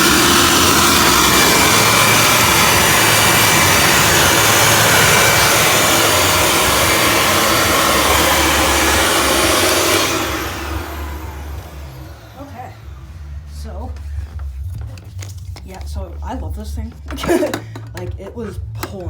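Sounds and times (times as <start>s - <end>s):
motor winding down: 0.0s - 15.5s
vacuum cleaner running on carpet: 0.0s - 15.6s.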